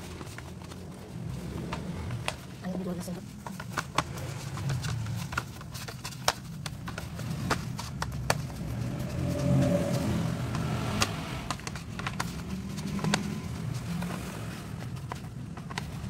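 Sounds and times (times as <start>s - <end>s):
dough kneaded by hand: 0.0s - 16.0s.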